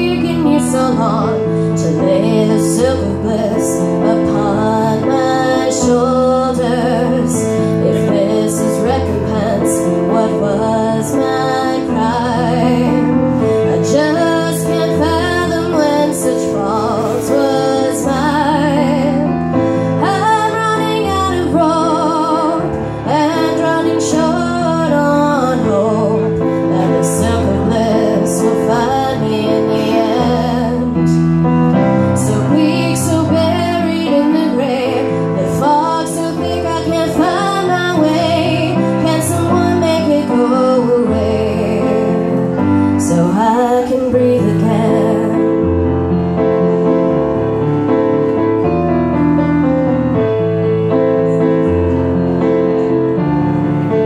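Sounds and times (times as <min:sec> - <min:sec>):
woman singing with vibrato: 0:00.0 - 0:31.2, 0:32.0 - 0:45.7
keyboard playing: 0:00.0 - 0:54.0.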